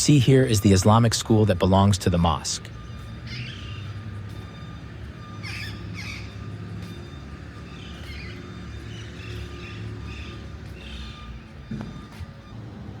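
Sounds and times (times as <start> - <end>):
city background hum: 0.0 - 13.0
harsh bird calls: 0.1 - 12.7.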